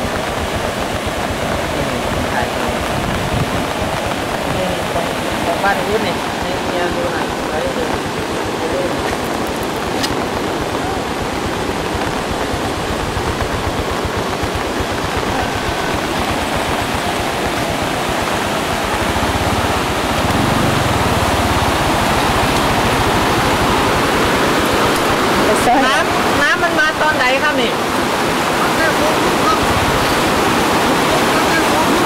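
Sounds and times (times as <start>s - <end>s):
floodwater rushing across road: 0.0s - 32.0s.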